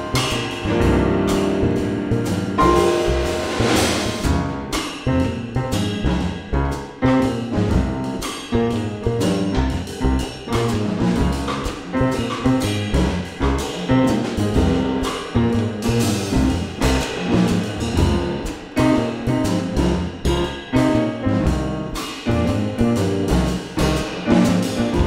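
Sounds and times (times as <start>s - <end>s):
acoustic piano: 0.0s - 25.0s
drum kit with cymbals: 0.0s - 25.0s
plucked upright bass: 0.0s - 25.0s.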